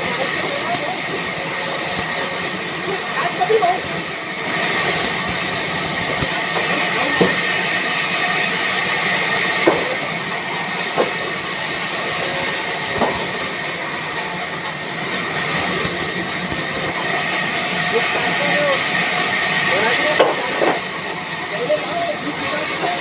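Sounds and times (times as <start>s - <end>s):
sawmill machinery hissing: 0.0s - 23.0s.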